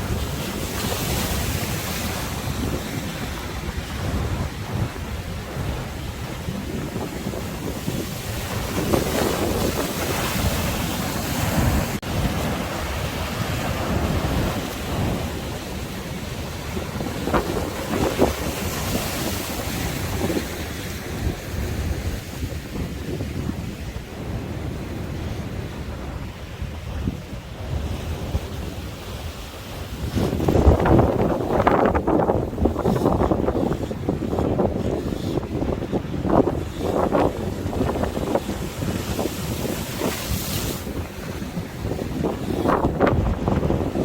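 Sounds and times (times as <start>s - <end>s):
sea waves breaking: 0.0s - 44.0s
wind buffeting microphone: 0.0s - 44.0s.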